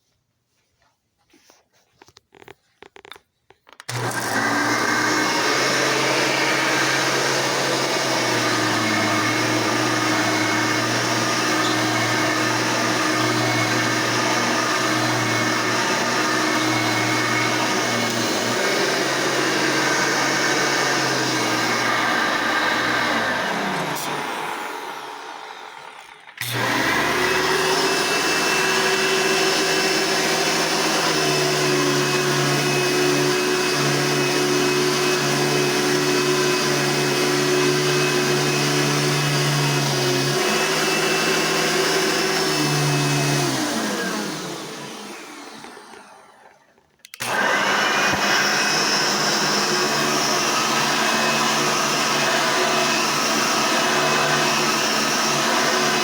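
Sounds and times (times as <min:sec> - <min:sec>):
vacuum cleaner running: 0:03.8 - 0:56.0
vacuum cleaner winding down: 0:03.8 - 0:56.0.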